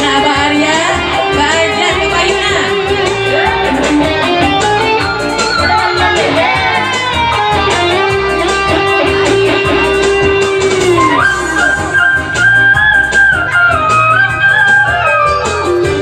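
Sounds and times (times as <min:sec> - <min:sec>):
guitar-led instrumental band music: 0:00.0 - 0:16.0.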